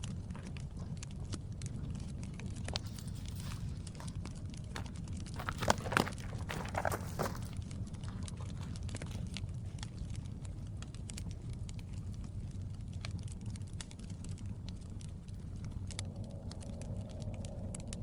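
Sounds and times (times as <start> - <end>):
campfire crackling and popping: 0.0 - 18.0
low steady rumble: 0.0 - 18.0.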